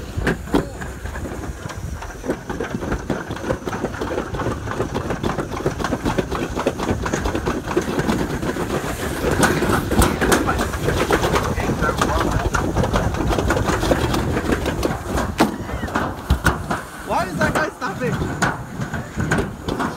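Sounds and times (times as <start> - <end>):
sled wheels rattling on track: 0.0 - 19.9.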